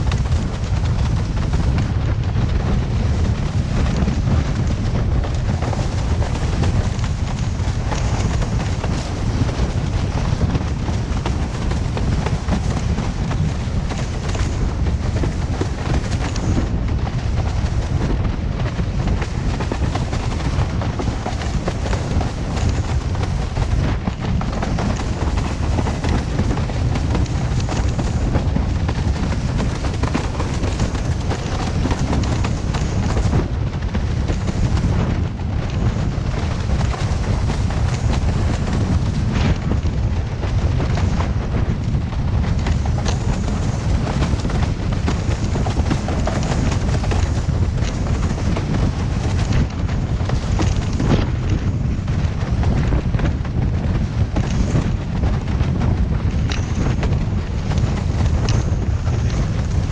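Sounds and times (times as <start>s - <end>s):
water rushing under board: 0.0s - 59.9s
wind buffeting microphone: 0.0s - 59.9s.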